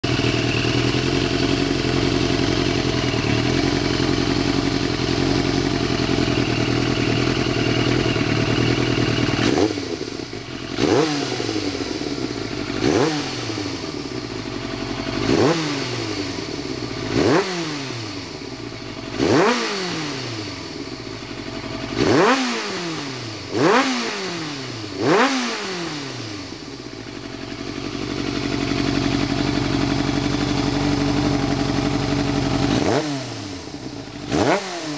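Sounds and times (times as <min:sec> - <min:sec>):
motorcycle engine idling: 0:00.0 - 0:34.9
motorcycle engine revving: 0:00.0 - 0:34.9.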